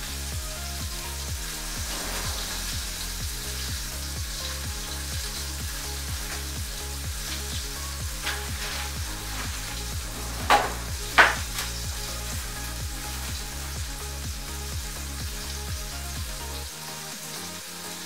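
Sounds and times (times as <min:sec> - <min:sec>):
music with steady beat and bass: 0:00.0 - 0:18.0
steady sizzling hiss: 0:00.0 - 0:18.0.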